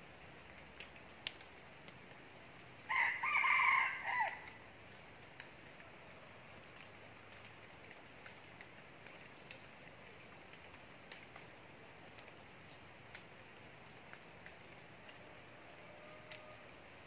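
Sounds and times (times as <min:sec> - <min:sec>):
light ticks: 0:00.2 - 0:03.0, 0:04.2 - 0:16.6.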